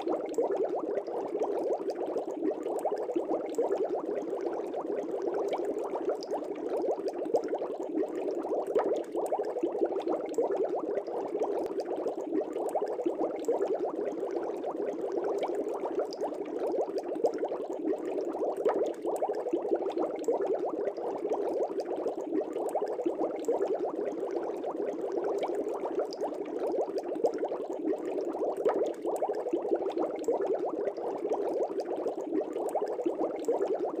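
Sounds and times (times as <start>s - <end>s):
aquarium air bubbles bubbling: 0.0s - 34.0s.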